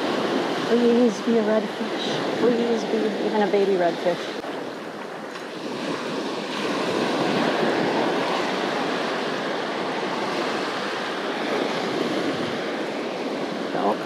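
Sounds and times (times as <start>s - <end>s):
waves breaking on beach: 0.0s - 14.0s.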